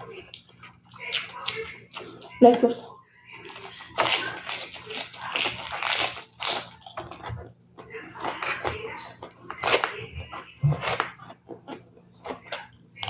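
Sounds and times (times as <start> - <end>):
chewing crunchy lettuce: 0.0 - 13.0.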